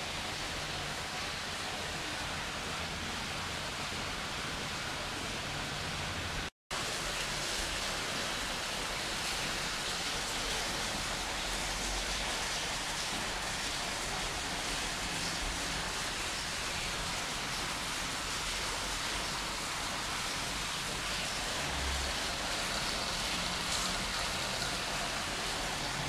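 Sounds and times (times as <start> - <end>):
aquarium filter water splashing: 0.0 - 26.0.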